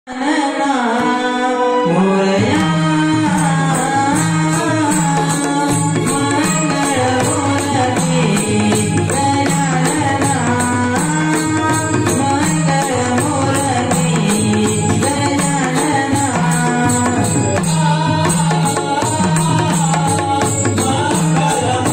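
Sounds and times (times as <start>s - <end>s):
hand drums in fast rhythm: 2.5s - 21.9s.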